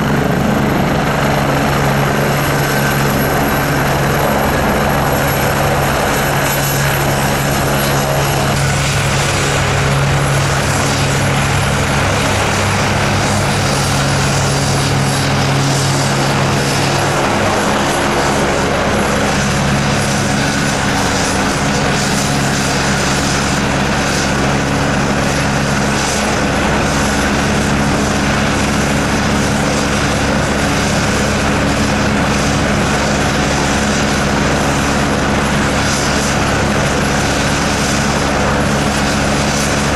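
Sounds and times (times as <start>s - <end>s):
helicopter rotor thrum: 0.0s - 39.9s
high turbine whine: 0.0s - 39.9s.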